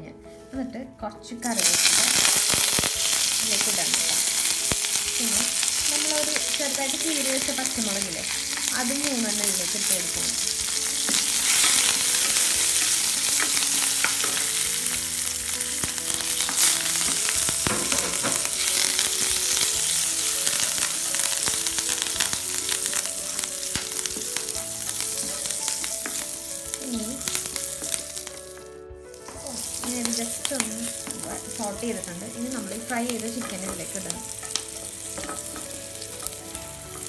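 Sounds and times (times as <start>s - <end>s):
chillies sizzling in hot oil: 1.2s - 37.0s
spatula stirring: 1.6s - 37.0s.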